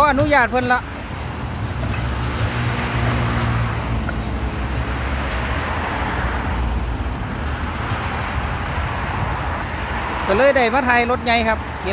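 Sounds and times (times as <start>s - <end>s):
rushing noise: 0.8s - 11.9s.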